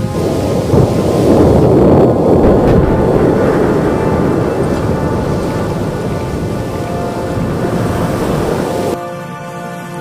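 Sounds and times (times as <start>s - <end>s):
deep rumble: 0.0s - 9.0s.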